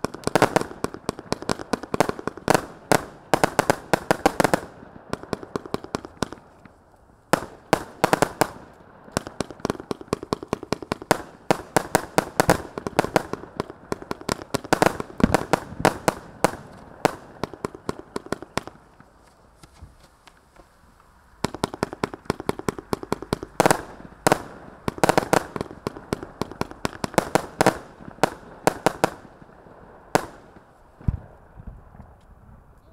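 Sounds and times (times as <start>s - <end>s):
fireworks shots and bursts: 0.0s - 19.2s, 21.3s - 31.9s.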